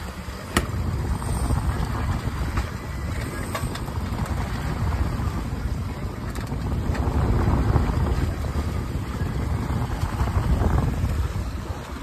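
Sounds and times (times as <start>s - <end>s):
outboard motors rumbling: 0.0s - 12.0s
water churning: 0.0s - 12.0s.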